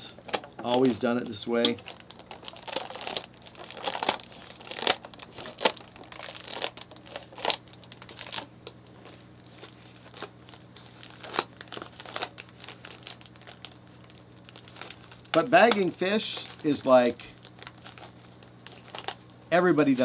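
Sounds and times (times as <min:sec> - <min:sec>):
steady low hum: 0:00.0 - 0:20.0
plastic bag crinkling: 0:00.6 - 0:20.0.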